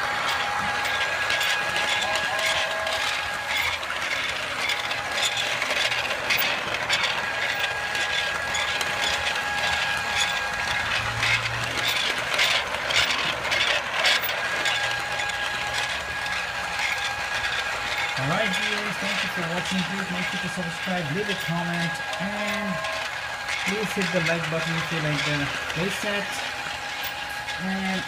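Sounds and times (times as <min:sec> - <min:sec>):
small motor whine: 0:00.0 - 0:28.0
wheels clicking on track: 0:00.0 - 0:28.0.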